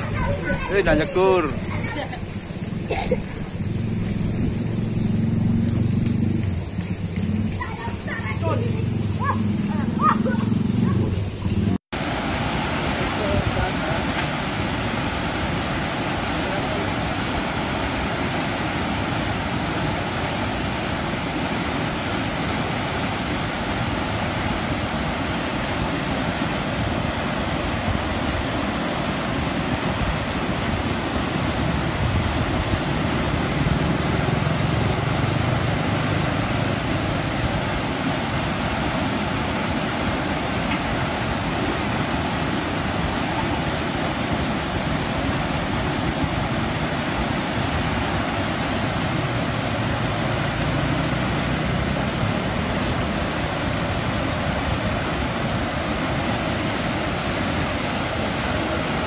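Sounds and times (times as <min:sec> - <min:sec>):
water rushing over weir: 0:00.0 - 0:59.0.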